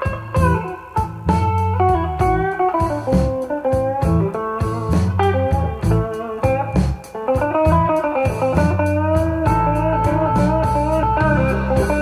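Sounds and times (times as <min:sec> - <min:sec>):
blues music over loudspeakers: 0:00.0 - 0:12.0.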